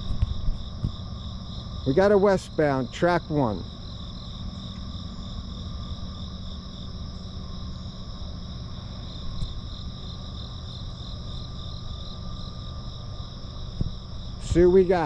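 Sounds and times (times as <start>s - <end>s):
crickets trilling: 0.0s - 15.0s
low steady rumble: 0.0s - 15.0s.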